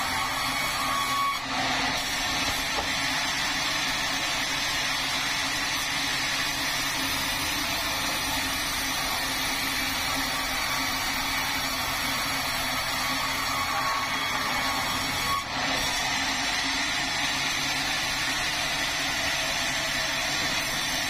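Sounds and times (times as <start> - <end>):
sawmill machinery running: 0.0 - 21.0.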